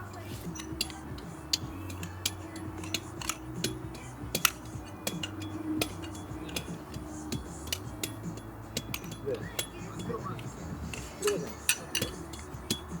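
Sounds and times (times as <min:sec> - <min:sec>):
faint background music: 0:00.0 - 0:13.0
metallic clicks and clinks: 0:00.0 - 0:13.0.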